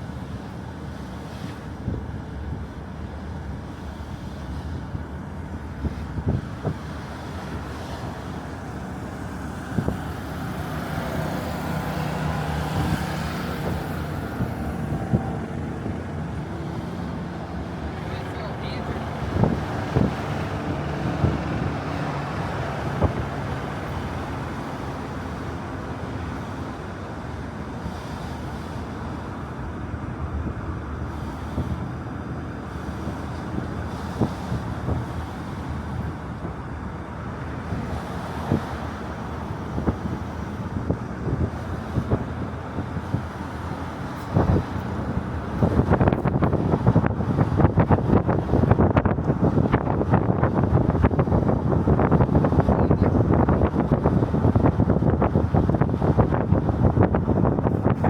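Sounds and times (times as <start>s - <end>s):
road traffic rumble: 0.0s - 58.0s
wind on microphone: 0.0s - 58.0s.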